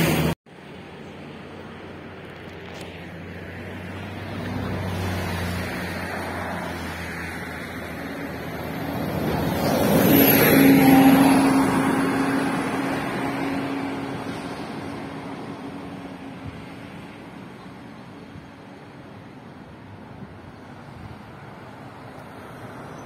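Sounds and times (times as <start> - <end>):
vehicle passing on road: 0.0 - 23.0.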